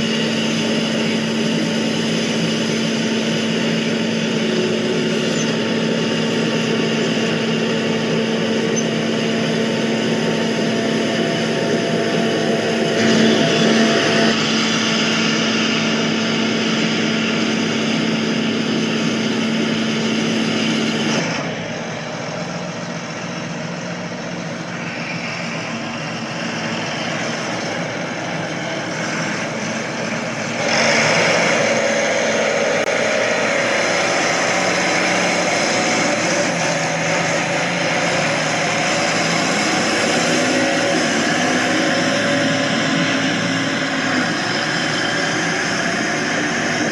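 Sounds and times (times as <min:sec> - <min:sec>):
loud machine humming: 0:00.0 - 0:46.9.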